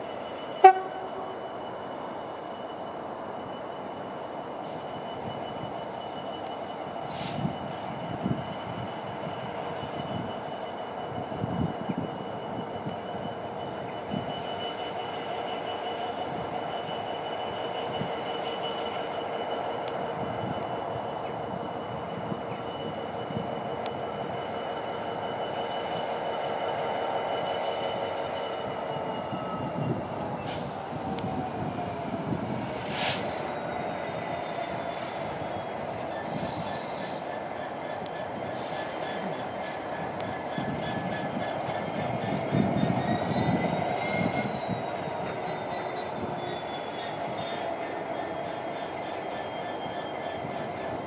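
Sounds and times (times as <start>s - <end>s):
low train rumble: 0.0s - 51.0s
wheels squealing on rails: 0.0s - 51.0s.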